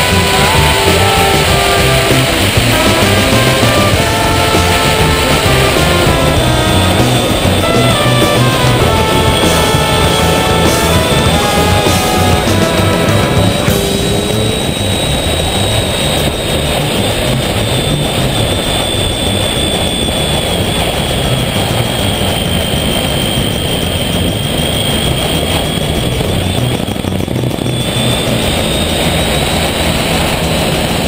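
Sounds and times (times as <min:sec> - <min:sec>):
motorcycle engine whine: 0:00.0 - 0:31.0
wind noise: 0:00.0 - 0:31.0.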